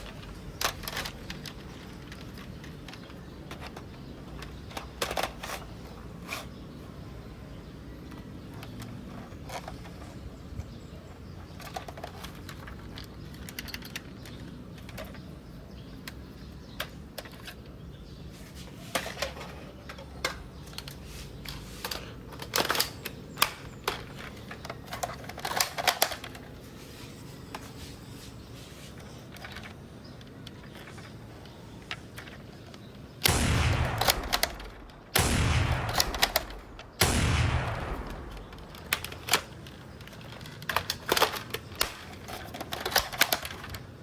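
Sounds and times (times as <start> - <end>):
rifle parts clicking and clattering: 0.0 - 6.6, 8.0 - 44.0.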